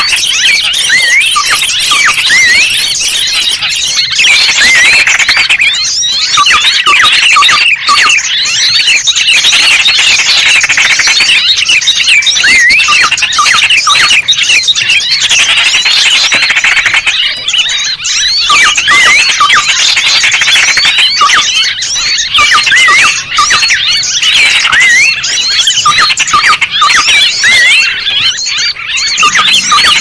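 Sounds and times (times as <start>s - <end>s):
chorus of small songbirds: 0.0s - 30.0s.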